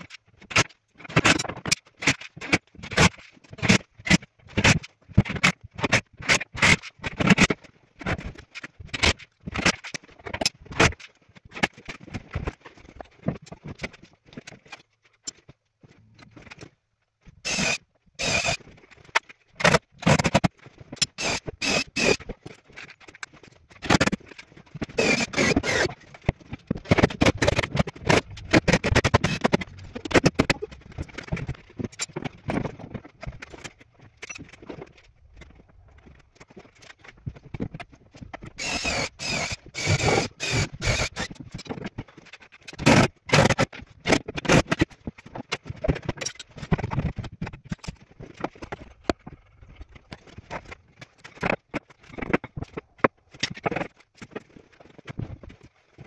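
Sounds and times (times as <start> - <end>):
clatter of wood panels and tools: 0.0 - 56.0.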